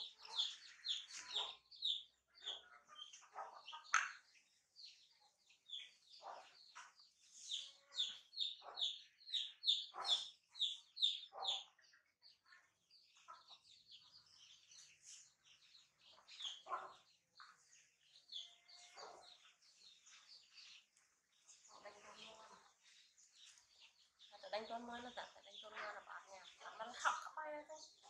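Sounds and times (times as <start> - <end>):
chickens clucking and chirping: 0.0 - 28.0.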